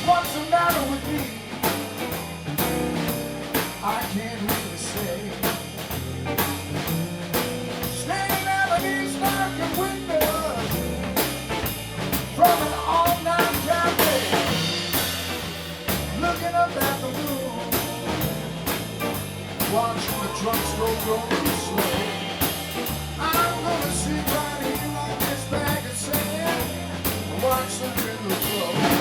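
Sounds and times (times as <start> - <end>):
blues band playing: 0.0 - 29.0
drum kit beat: 0.0 - 29.0.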